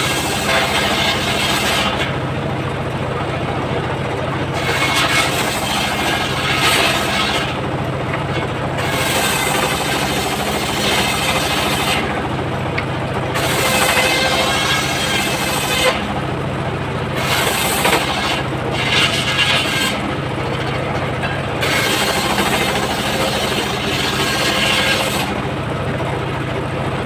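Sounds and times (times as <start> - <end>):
sawmill low hum: 0.0 - 27.0.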